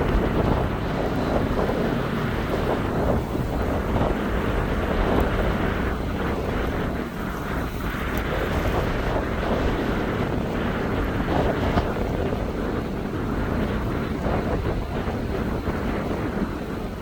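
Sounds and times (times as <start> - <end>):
broad low rumble: 0.0 - 17.0
wind buffeting microphone: 0.0 - 17.0.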